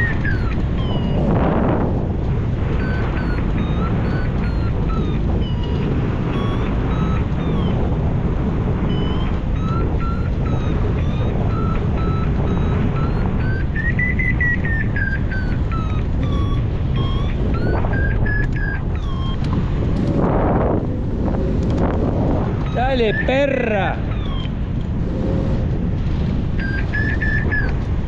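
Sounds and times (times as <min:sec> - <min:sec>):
variometer beeping: 0:00.0 - 0:28.0
wind rushing: 0:00.0 - 0:28.0.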